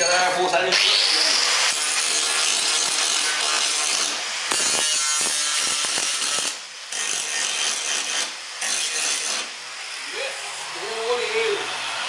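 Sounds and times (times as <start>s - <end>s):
angle grinder on sheet metal: 0.0s - 11.7s.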